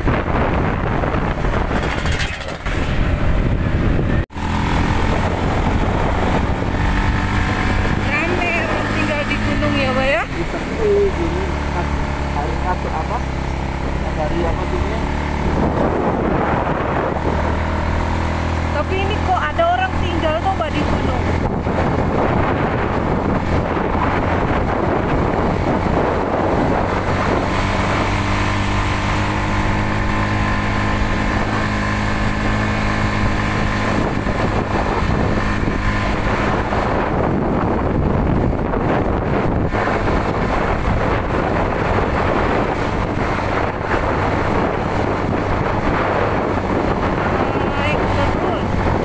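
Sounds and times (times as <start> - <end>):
motorcycle engine running: 0.0 - 49.0
wind rush on microphone: 0.0 - 49.0.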